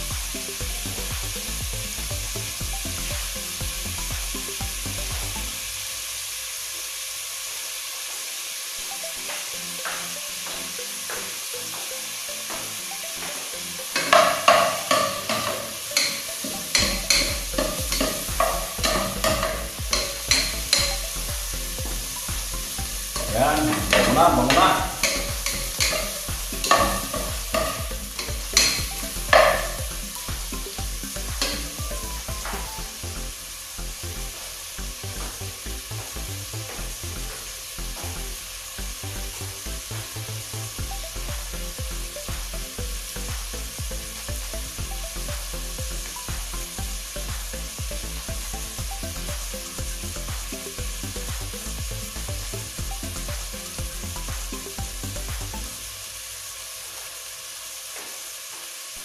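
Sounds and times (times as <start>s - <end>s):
aromatics sizzling in a pot: 0.0s - 59.0s.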